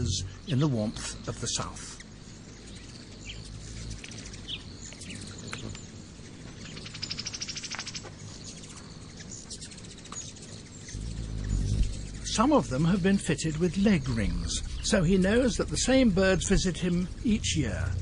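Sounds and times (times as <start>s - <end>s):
hummingbird chirps: 0.0s - 18.0s
ticking chatter: 0.0s - 18.0s.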